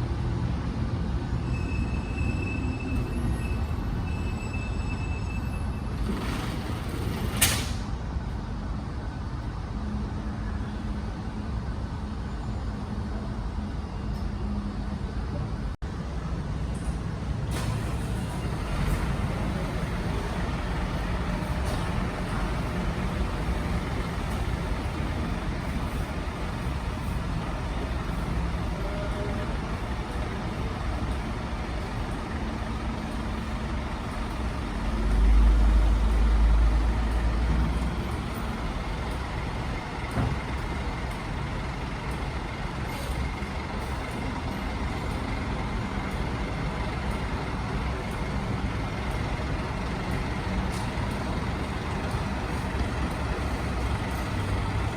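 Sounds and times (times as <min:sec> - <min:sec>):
heavy vehicle engine rumbling: 0:00.0 - 0:54.9
road traffic noise: 0:00.0 - 0:54.9.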